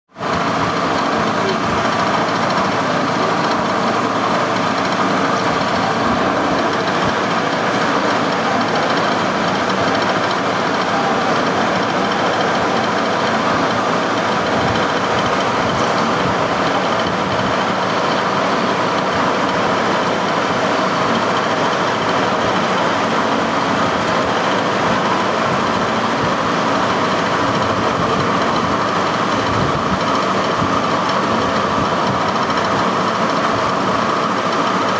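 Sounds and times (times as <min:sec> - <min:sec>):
machine tool running: 0:00.2 - 0:34.9.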